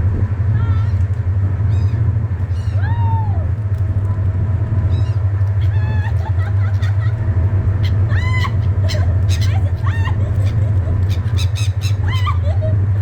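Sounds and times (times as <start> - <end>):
steady low rumble: 0.0 - 13.0
seagulls calling: 0.5 - 3.6, 4.8 - 13.0.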